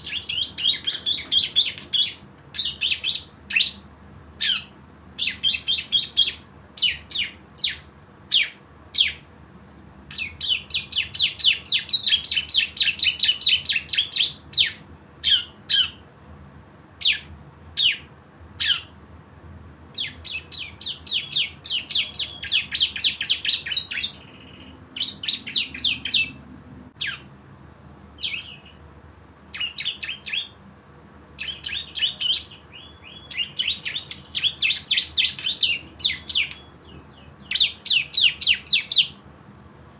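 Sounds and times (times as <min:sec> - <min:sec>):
bird chipping and trilling: 0:00.0 - 0:09.3, 0:10.1 - 0:16.1, 0:17.0 - 0:19.0, 0:19.9 - 0:27.3, 0:28.2 - 0:28.9, 0:29.5 - 0:30.6, 0:31.4 - 0:39.2.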